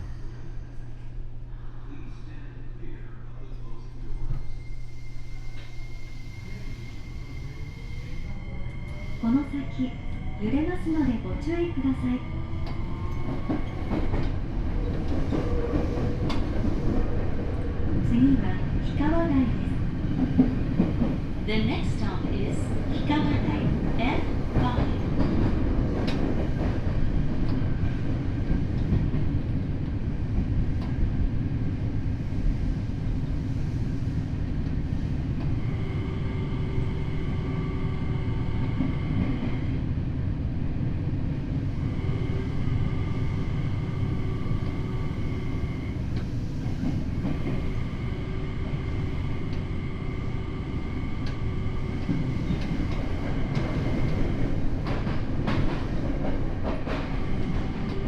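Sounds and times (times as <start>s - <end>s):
subway wheels rumbling on rail: 0.0s - 58.0s.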